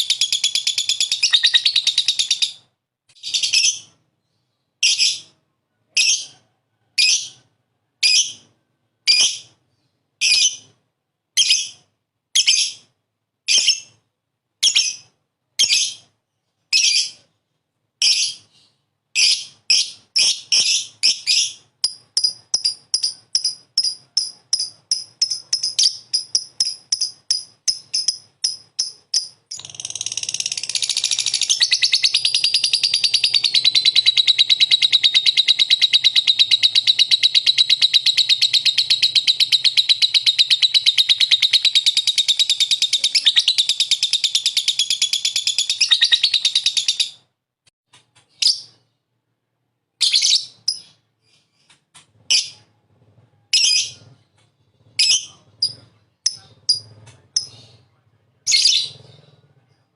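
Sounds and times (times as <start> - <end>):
lovebird chirping and trilling: 0.0 - 6.4, 7.0 - 10.8, 11.4 - 14.0, 14.6 - 16.1, 16.7 - 17.4, 18.0 - 47.2, 48.3 - 48.9, 50.0 - 52.7, 53.5 - 57.8, 58.5 - 59.8.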